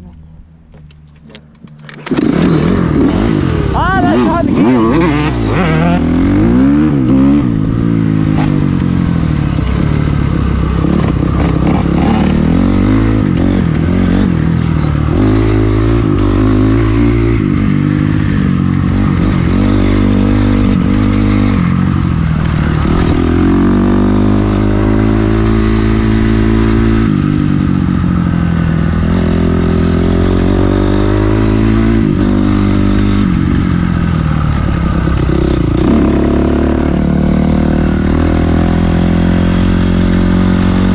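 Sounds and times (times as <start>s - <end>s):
dirt bike engine revving: 1.8s - 40.9s.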